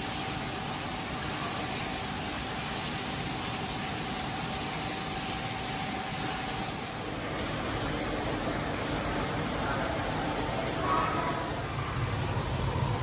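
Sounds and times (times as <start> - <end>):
room ambience hiss: 0.0 - 13.0.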